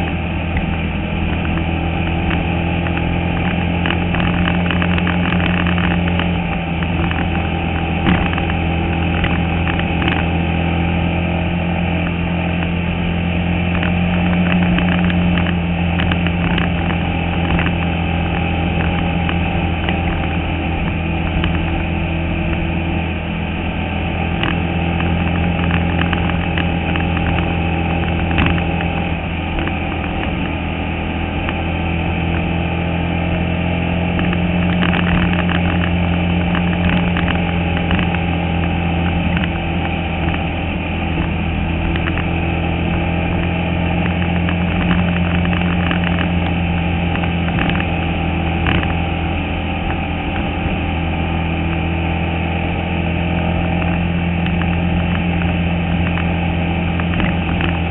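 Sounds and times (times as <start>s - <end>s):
race car engine running hard: 0.0s - 57.9s.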